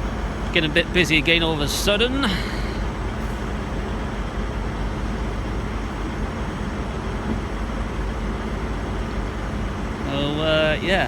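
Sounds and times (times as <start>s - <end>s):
diesel trains idling: 0.0s - 11.0s.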